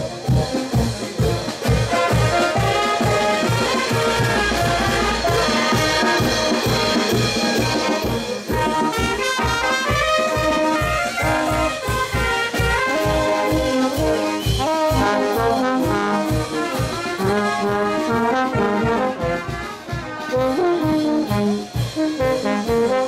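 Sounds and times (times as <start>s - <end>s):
bass drum beat: 0.0s - 23.0s
brass band playing: 0.0s - 23.0s
trumpets and saxophones melody: 0.0s - 23.0s.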